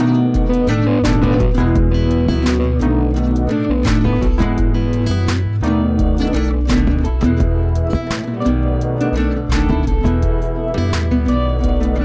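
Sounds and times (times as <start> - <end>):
instrumental guitar music with beat: 0.0 - 12.0.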